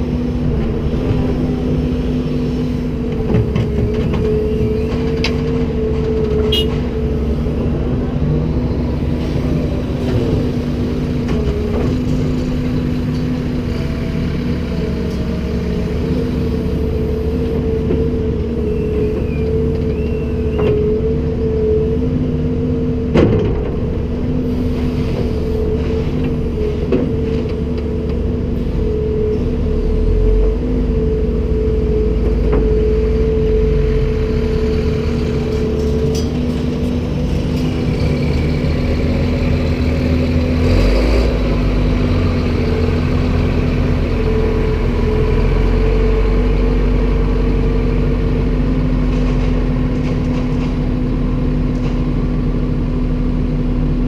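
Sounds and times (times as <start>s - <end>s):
excavator diesel engine drone: 0.0s - 54.0s.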